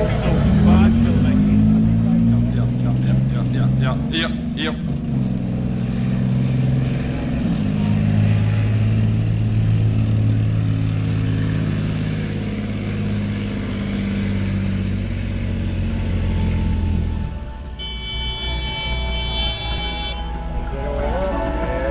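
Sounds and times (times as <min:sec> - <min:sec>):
diesel engine running under load: 0:00.0 - 0:21.9.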